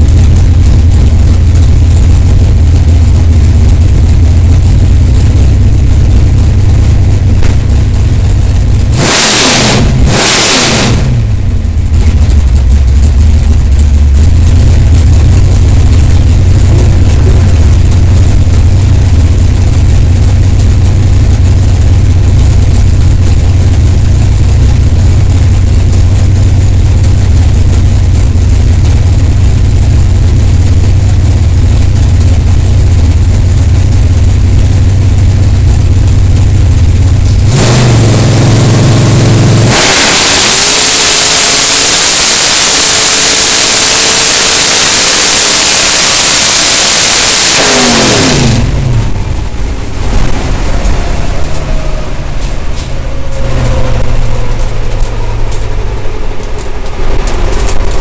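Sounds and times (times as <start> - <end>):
racing car engine from cockpit: 0.0 - 58.0.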